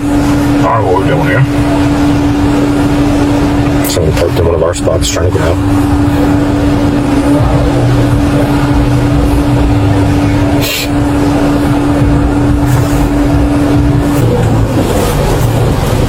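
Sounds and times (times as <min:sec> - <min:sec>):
car engine and road rumble: 0:00.0 - 0:16.0
constant hum: 0:00.0 - 0:16.0.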